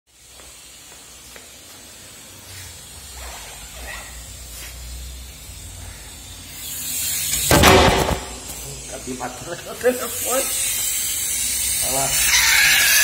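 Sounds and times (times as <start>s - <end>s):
steady hiss: 0.1s - 13.0s.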